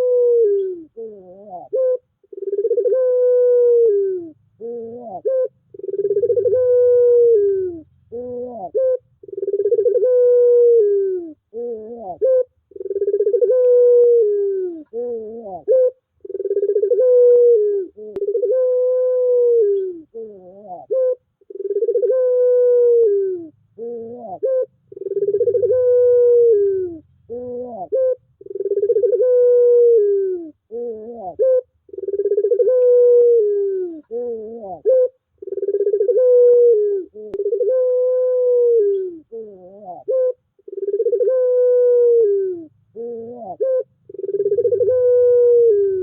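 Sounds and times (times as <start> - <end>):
dove cooing: 0.0 - 46.0.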